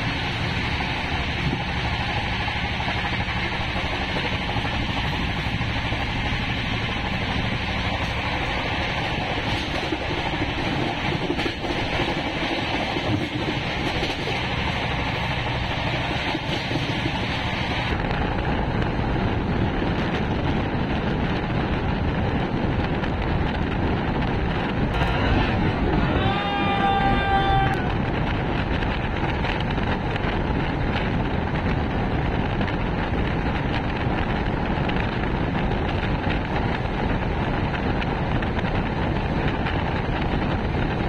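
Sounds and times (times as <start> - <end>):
train wheels on rails: 0.0 - 41.0
wind rushing over microphone: 0.0 - 41.0.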